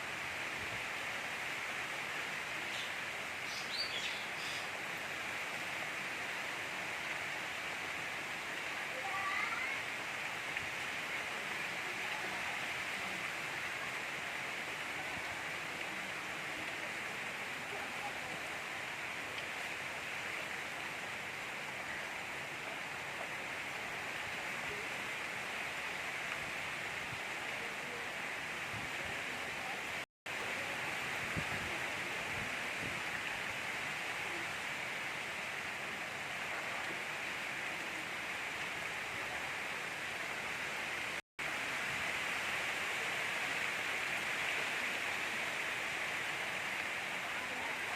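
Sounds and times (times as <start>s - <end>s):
gentle rain falling: 0.0s - 47.9s.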